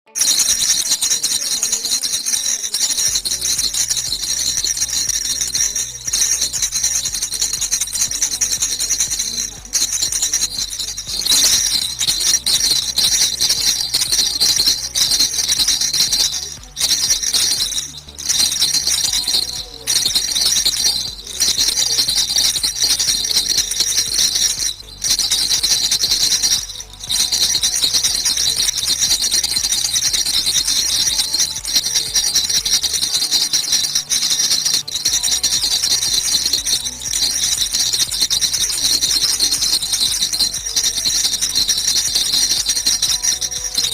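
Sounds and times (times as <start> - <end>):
baby rattle shaken fast: 0.1 - 43.9.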